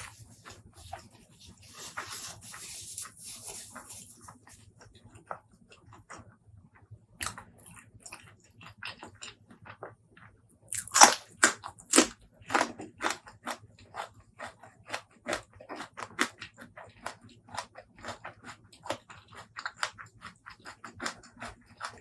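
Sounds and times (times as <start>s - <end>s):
person crunching food: 0.0s - 6.2s, 7.2s - 9.8s, 10.7s - 22.0s.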